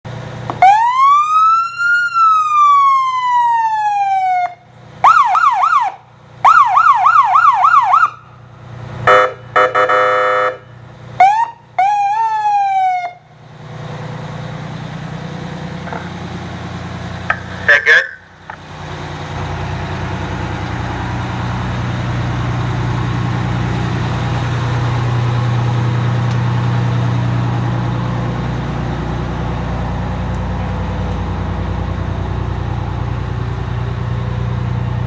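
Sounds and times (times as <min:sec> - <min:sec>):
truck engine idling: 0:00.1 - 0:35.0
fire truck siren: 0:00.5 - 0:35.0.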